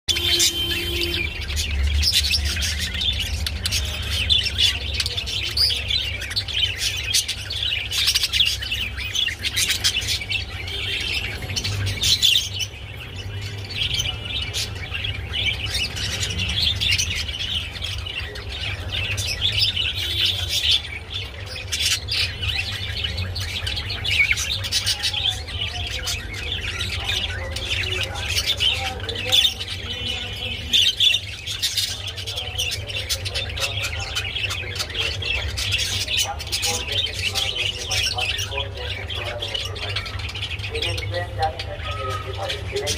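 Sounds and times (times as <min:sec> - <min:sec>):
budgerigars chattering: 0:00.1 - 0:42.9.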